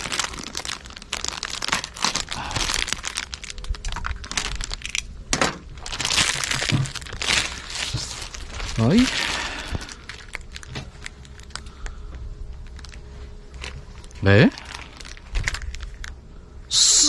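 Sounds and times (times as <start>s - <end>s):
plastic packaging crinkling: 0.0s - 16.3s.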